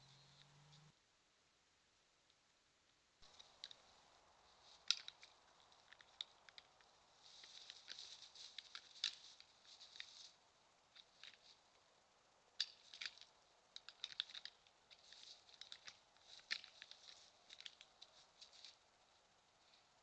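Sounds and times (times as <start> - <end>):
clicks and crackles in dry grass: 3.2 - 20.0.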